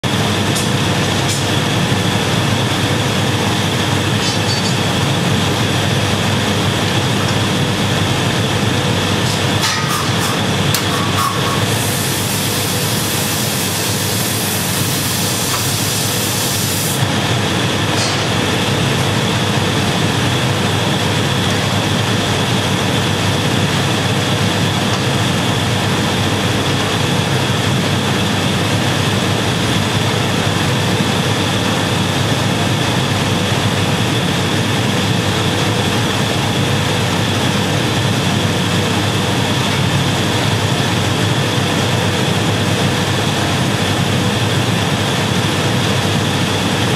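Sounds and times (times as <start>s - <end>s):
furnace and fan roar: 0.0s - 46.9s.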